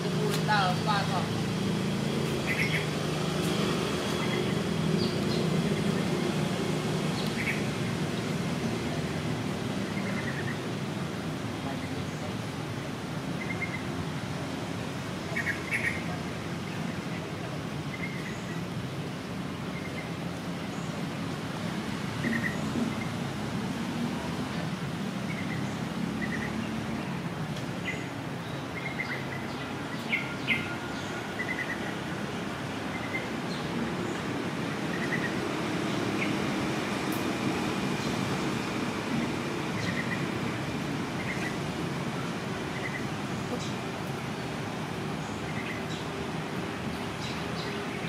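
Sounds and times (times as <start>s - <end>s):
birds chirping: 0.1s - 14.3s, 14.9s - 21.3s, 24.4s - 48.0s.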